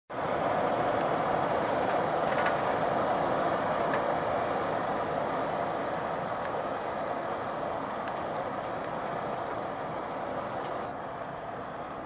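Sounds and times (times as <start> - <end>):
steady rain hiss: 0.1 - 12.0.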